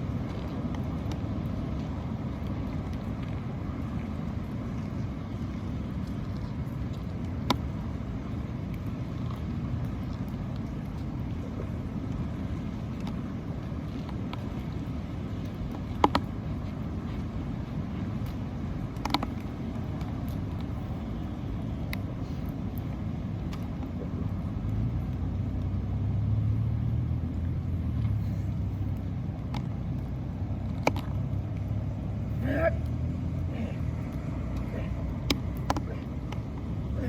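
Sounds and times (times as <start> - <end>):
low rumbling background noise: 0.0 - 37.0.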